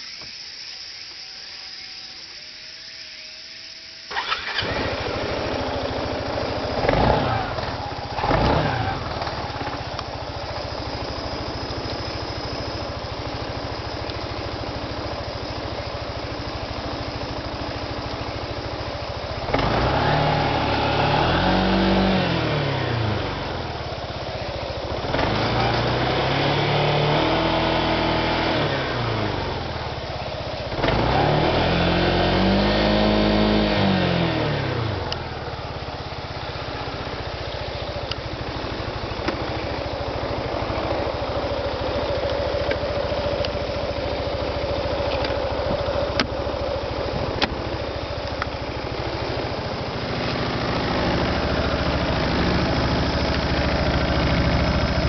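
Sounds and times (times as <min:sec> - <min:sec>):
scooter engine revving and idling: 0:00.0 - 0:55.0.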